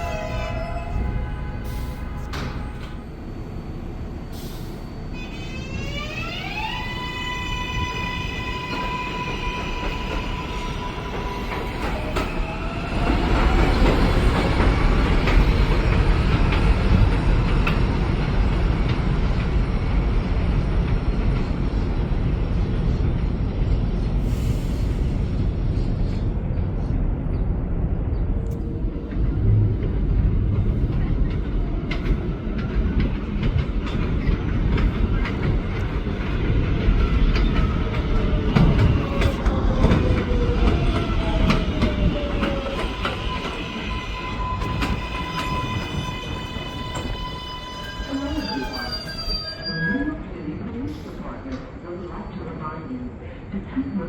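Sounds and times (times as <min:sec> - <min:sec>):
train cars rumbling: 0:00.0 - 0:54.0.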